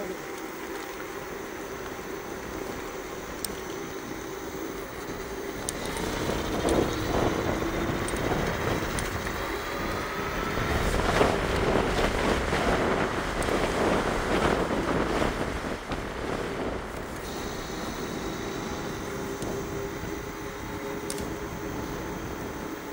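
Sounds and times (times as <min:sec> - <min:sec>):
faint motor whine: 0:00.0 - 0:22.9
wind rushing over microphone: 0:00.0 - 0:22.9.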